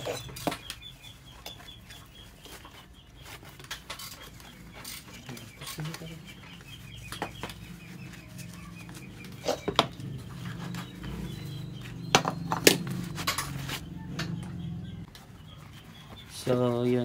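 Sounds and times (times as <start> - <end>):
rustling and scraping of wool: 0.0 - 13.9.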